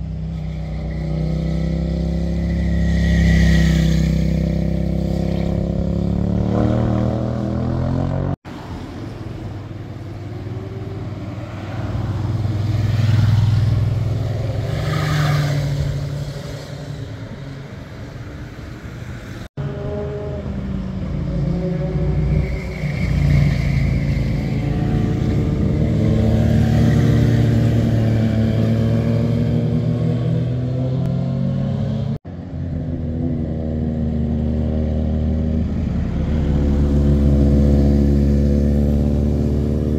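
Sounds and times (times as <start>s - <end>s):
motorcycle engines passing: 0.0s - 18.1s, 19.1s - 39.9s.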